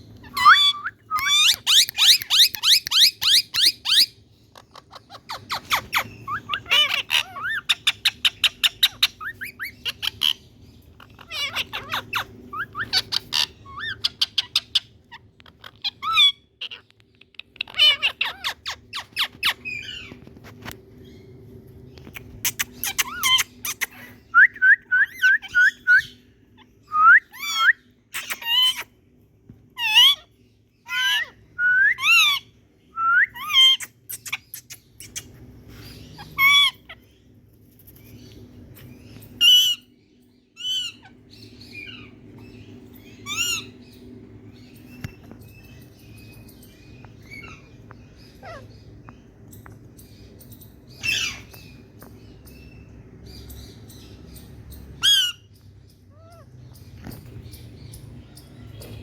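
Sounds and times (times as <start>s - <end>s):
parakeets squawking: 0.0s - 20.2s, 22.2s - 24.2s, 25.1s - 29.1s, 29.7s - 59.0s.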